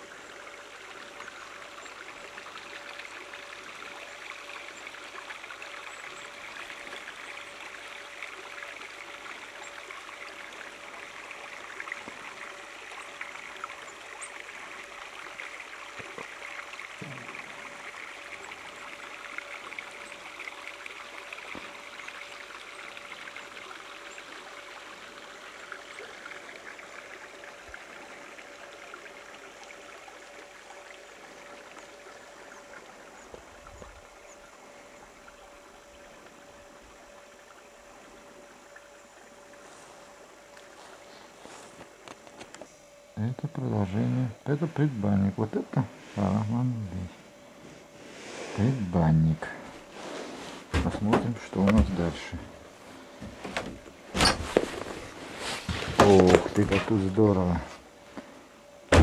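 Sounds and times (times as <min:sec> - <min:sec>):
stream running over stones: 0:00.0 - 0:47.5, 0:48.5 - 0:59.0.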